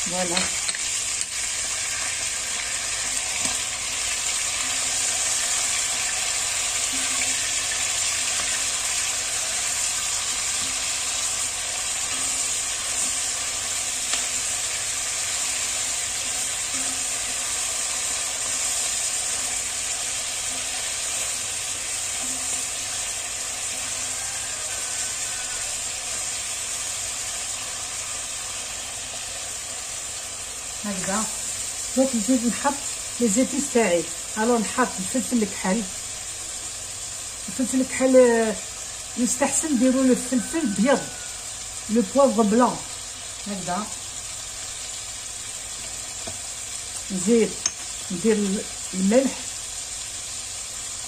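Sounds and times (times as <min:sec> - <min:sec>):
food sizzling in oil: 0:00.0 - 0:51.0.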